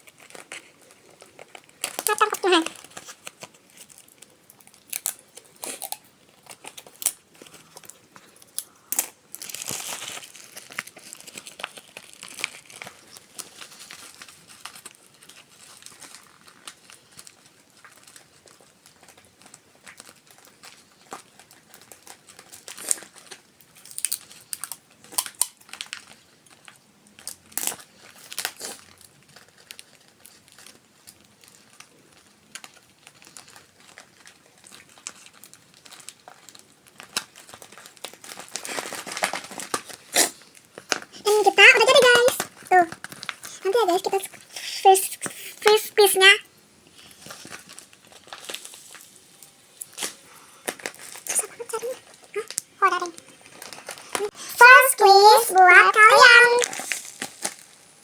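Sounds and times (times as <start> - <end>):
paper and plastic bags crinkling: 0.0 - 58.0.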